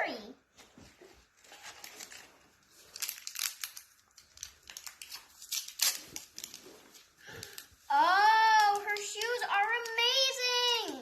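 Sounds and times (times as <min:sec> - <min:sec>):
plastic wrapper crinkling and tearing: 0:01.4 - 0:11.0.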